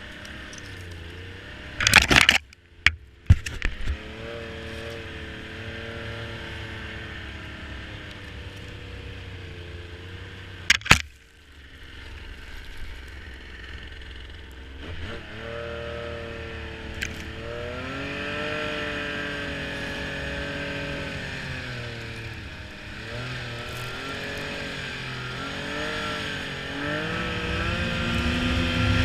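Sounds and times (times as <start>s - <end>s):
snowmobile engine running: 0.0s - 29.0s.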